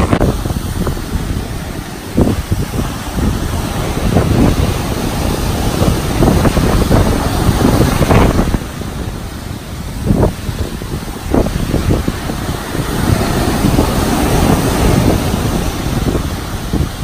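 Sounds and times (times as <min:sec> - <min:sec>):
heavy surf breaking: 0:00.0 - 0:17.0
wind buffeting microphone: 0:00.0 - 0:17.0.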